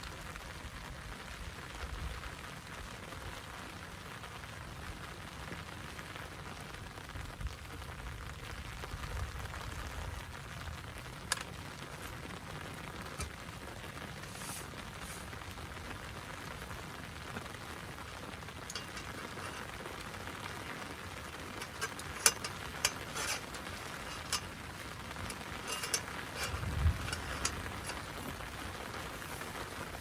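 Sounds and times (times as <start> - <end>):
rain hissing on a tent: 0.0 - 30.0.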